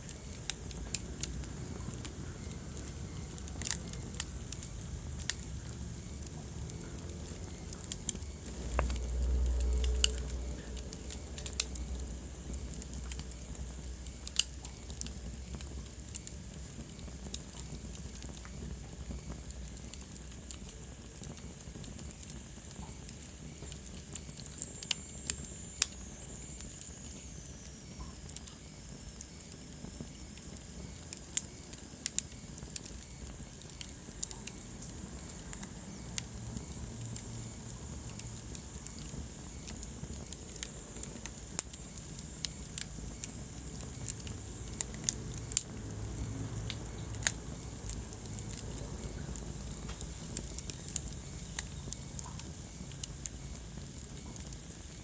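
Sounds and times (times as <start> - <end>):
fire crackles and pops: 0.0 - 55.0
wood fire rumble and hiss: 0.0 - 55.0.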